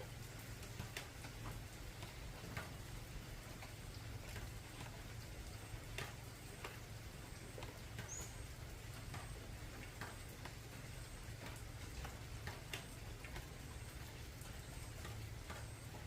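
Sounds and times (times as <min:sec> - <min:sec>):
rain dripping on tin roof: 0:00.0 - 0:16.0
steady hiss and low rumble: 0:00.0 - 0:16.0.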